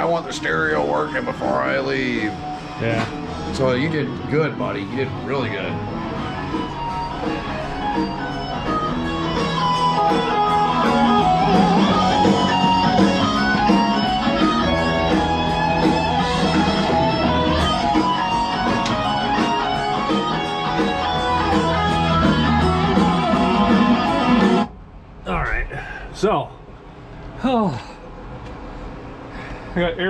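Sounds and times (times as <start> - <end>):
guitar-led music with steady beat: 0.0 - 24.8.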